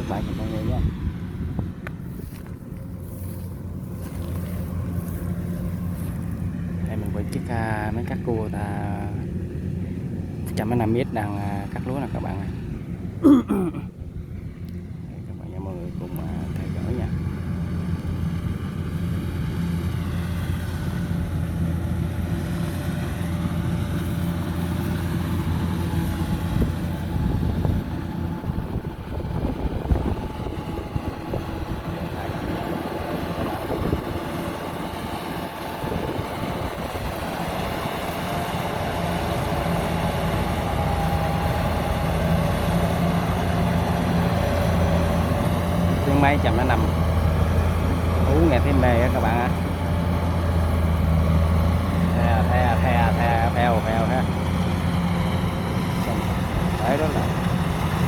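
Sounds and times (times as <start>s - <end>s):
combine harvester engine drone: 0.0s - 58.0s
harvesting machinery clatter: 1.9s - 9.4s, 15.5s - 58.0s.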